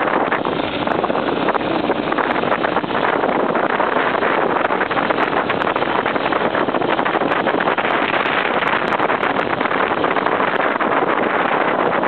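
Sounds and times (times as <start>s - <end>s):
motorcycle engine under load: 0.0s - 12.0s
wind buffeting microphone: 0.0s - 12.0s.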